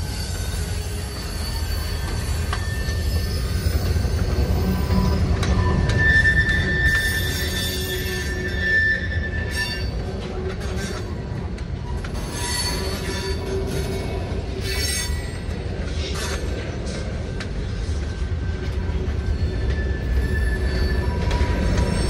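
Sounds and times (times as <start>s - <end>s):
high wheel squeals: 0.0s - 16.5s, 18.1s - 22.0s
train wheels rumbling on rail: 0.0s - 22.0s.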